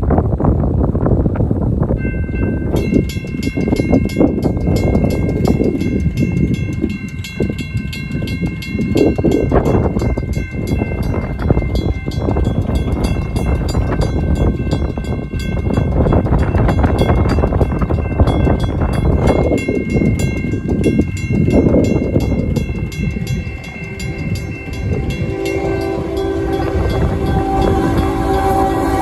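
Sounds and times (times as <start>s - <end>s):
wind rumble on microphone: 0.0s - 29.0s
electronic crossing bell ringing: 2.0s - 29.0s
mechanical bell striking: 2.0s - 29.0s.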